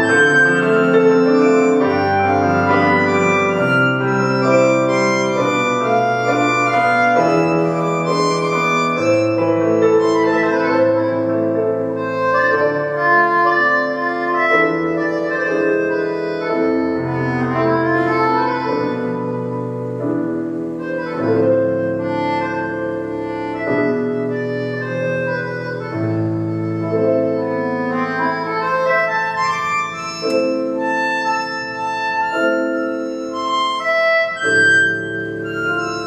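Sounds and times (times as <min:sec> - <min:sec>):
harmonica melody: 0:00.0 - 0:36.0
piano chords: 0:00.0 - 0:36.0.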